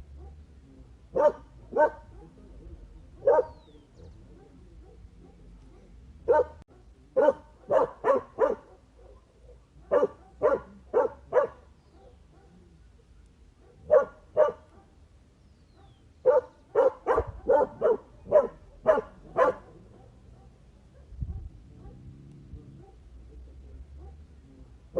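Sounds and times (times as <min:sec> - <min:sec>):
dog barking: 0:00.1 - 0:00.5, 0:01.1 - 0:02.6, 0:03.2 - 0:12.7, 0:13.6 - 0:15.0, 0:15.8 - 0:24.4.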